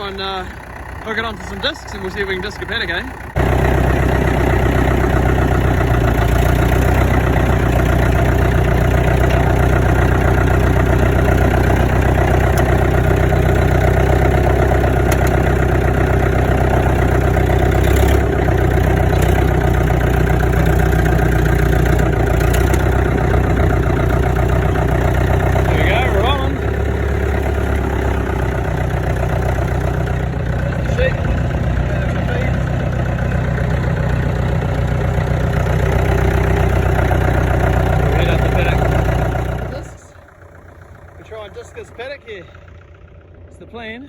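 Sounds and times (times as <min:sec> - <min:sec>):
bulldozer diesel engine running: 0:00.0 - 0:44.0.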